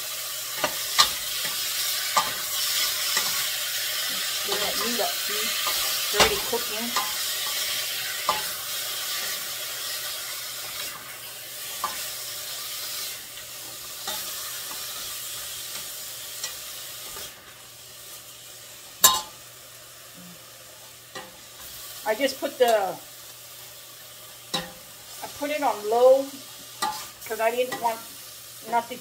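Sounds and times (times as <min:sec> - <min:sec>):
meat sizzling in a pot: 0:00.0 - 0:29.0.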